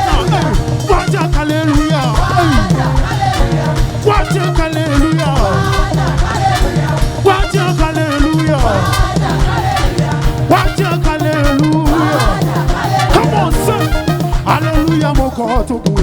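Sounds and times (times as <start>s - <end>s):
live gospel band playing: 0.0s - 16.0s
voices singing: 0.0s - 16.0s.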